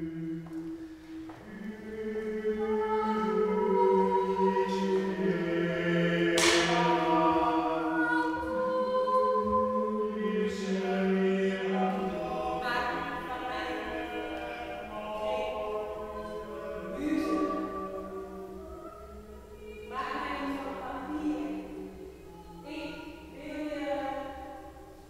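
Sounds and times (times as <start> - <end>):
choir singing slow chords: 0.0 - 25.0.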